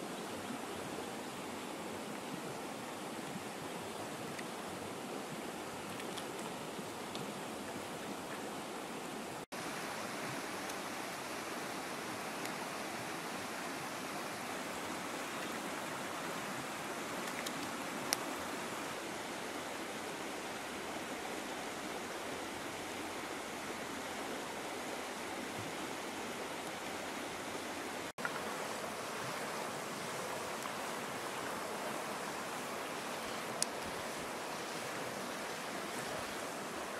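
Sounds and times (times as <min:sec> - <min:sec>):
river water flowing: 0:00.0 - 0:36.9.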